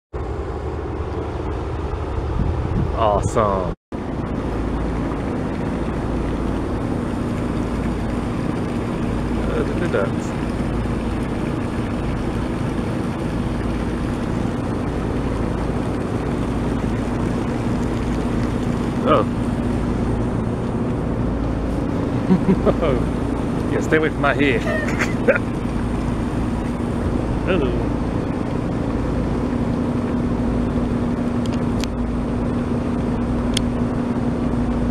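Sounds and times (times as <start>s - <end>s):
boat motor humming: 0.1s - 34.9s
low engine drone: 0.1s - 34.9s.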